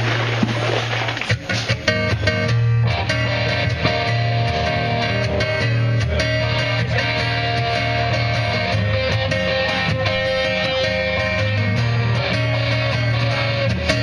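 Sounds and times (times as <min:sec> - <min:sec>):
amplified strummed guitars: 0:00.0 - 0:14.0.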